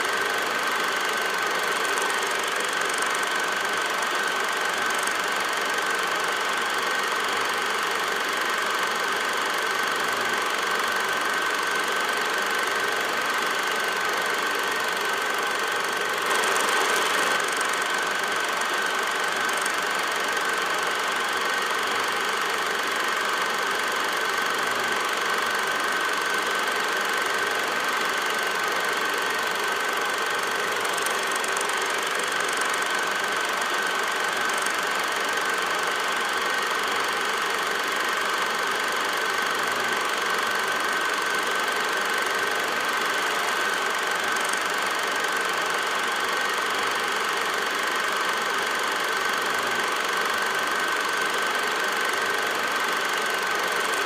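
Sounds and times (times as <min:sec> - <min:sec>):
film projector whirring: 0:00.0 - 0:54.0.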